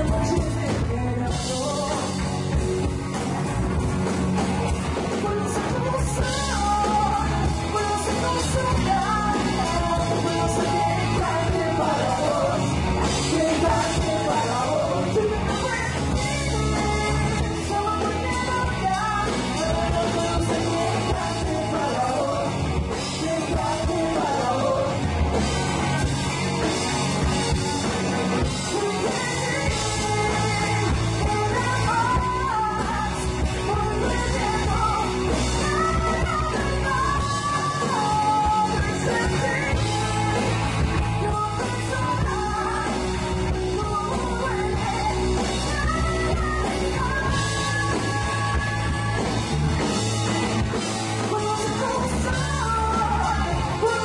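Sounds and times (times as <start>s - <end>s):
bass guitar: 0.0s - 54.0s
drums: 0.0s - 54.0s
electric guitar: 0.0s - 54.0s
woman singing lead: 0.0s - 54.0s.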